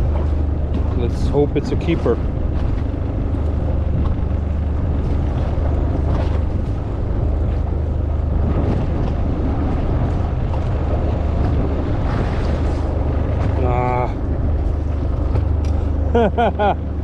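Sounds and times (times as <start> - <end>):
boat motor running: 0.0 - 17.0
water noise: 0.0 - 17.0
wind: 0.0 - 17.0.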